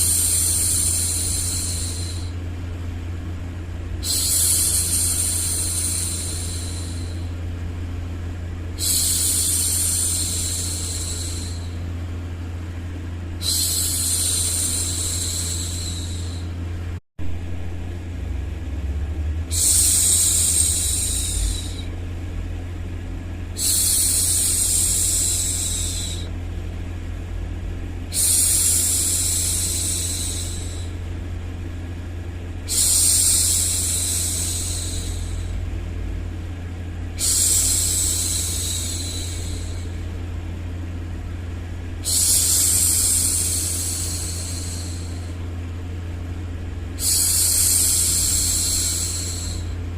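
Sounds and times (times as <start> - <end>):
low white-noise hum: 0.0 - 49.9.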